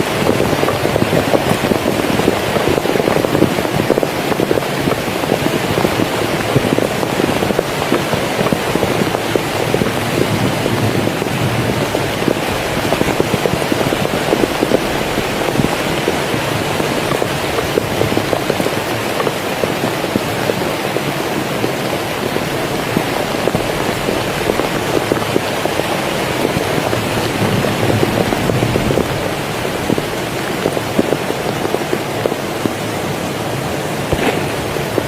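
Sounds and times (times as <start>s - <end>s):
heavy rain: 0.0s - 35.0s.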